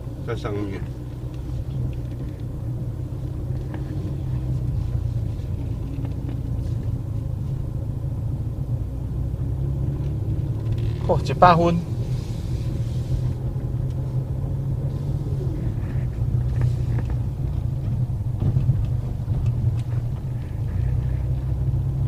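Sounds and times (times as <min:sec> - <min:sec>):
car cabin engine and road drone: 0:00.0 - 0:22.0.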